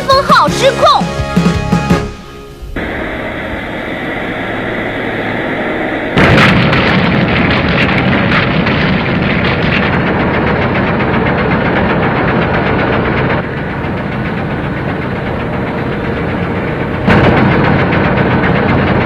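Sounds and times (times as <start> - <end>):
loud rushing noise: 0.1 - 19.0
crackling: 2.0 - 19.0.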